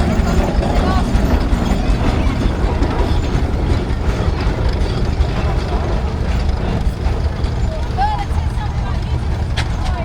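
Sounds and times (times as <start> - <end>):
steam engines rumbling: 0.0 - 10.0.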